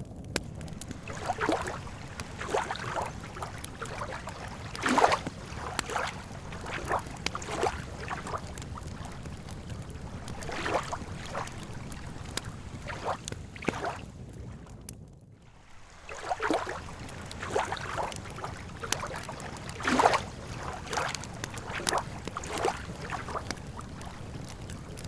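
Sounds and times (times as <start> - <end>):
campfire crackling: 0.0 - 25.0
water lapping at shore: 0.4 - 14.8, 15.4 - 25.0.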